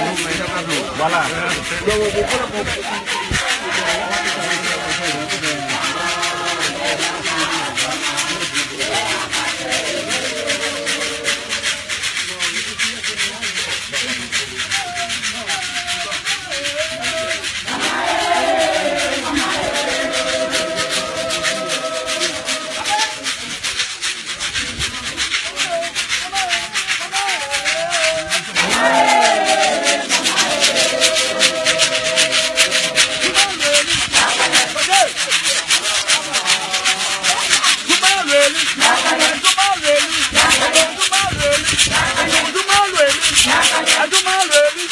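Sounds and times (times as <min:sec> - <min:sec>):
choir singing: 0:00.0 - 0:12.2, 0:16.7 - 0:23.6, 0:26.8 - 0:44.9
hand percussion beat: 0:00.0 - 0:44.9
shaken rattles: 0:00.0 - 0:44.9
sliding vocal calls: 0:00.0 - 0:44.9
person singing: 0:01.9 - 0:12.2, 0:14.8 - 0:23.6, 0:25.5 - 0:44.9.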